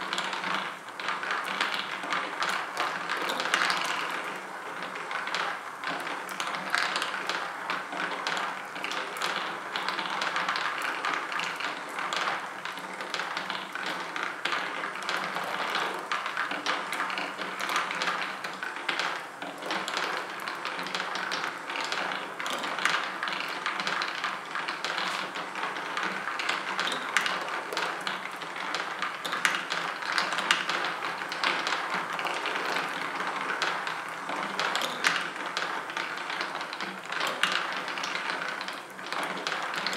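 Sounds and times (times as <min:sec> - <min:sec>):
marbles ticking and clicking: 0:00.0 - 0:39.9.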